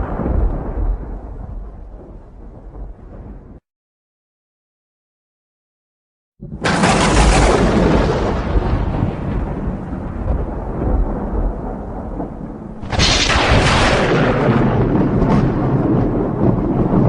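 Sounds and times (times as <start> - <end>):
rolling thunder rumble: 0.0 - 3.6, 6.4 - 17.0
sharp thunderclap: 0.0 - 3.6, 6.4 - 17.0.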